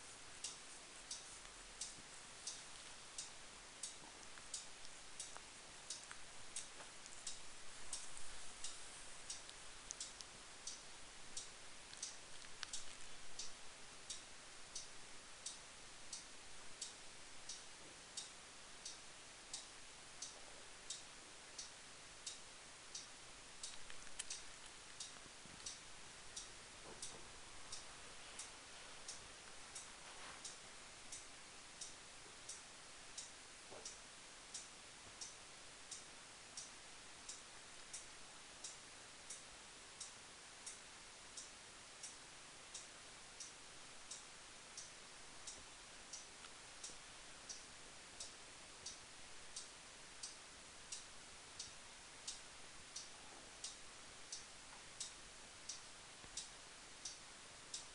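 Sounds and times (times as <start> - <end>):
clock ticking: 0.0 - 57.9
faint room hiss: 0.0 - 57.9.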